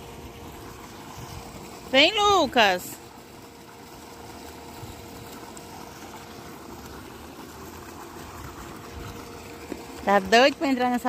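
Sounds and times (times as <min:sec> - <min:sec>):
water cascading into pool: 0:00.0 - 0:11.0.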